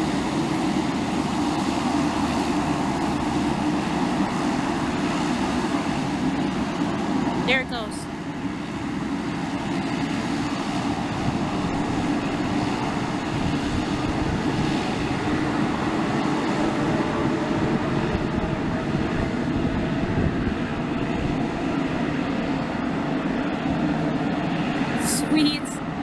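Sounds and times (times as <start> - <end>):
aircraft engines running: 0.0 - 26.0.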